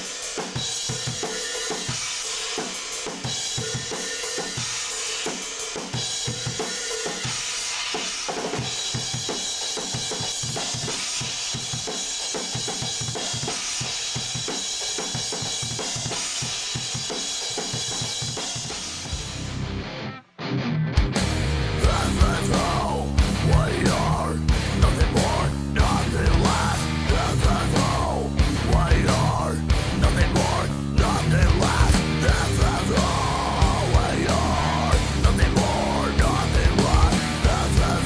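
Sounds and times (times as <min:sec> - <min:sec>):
fast drum kit playing: 0:00.0 - 0:19.7, 0:21.0 - 0:38.0.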